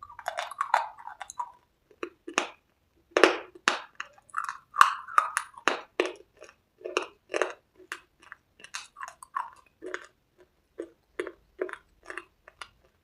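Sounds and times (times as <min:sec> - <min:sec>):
crunchy chewing: 0:00.0 - 0:02.6, 0:03.2 - 0:13.0.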